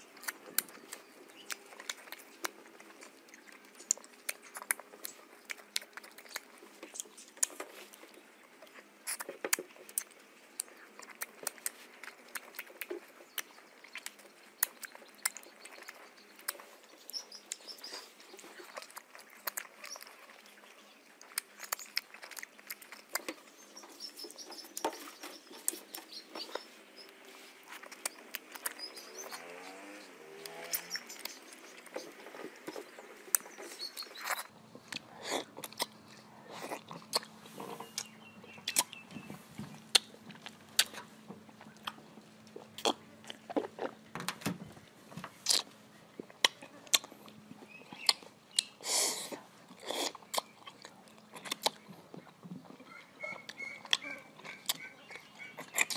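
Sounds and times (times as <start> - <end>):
mouth eating sounds: 8.7 - 44.0, 45.4 - 55.9.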